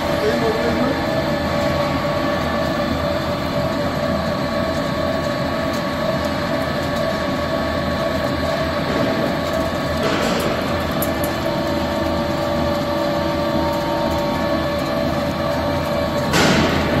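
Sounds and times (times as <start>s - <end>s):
pellet mill humming and whining: 0.0s - 17.0s.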